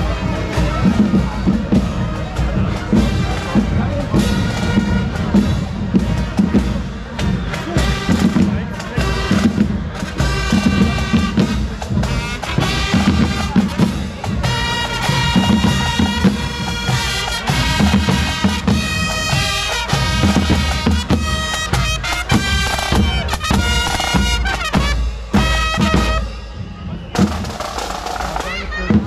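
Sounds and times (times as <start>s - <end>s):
bass drum beat: 0.0s - 29.0s
marching band playing: 0.0s - 29.0s
brass playing tune: 2.9s - 6.8s, 7.7s - 27.8s.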